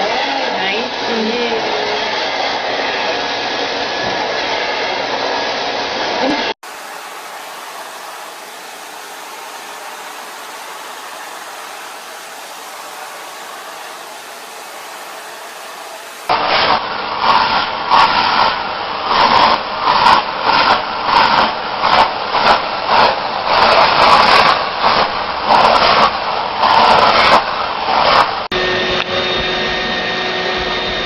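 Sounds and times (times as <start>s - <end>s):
blower motor rushing: 0.0s - 31.0s.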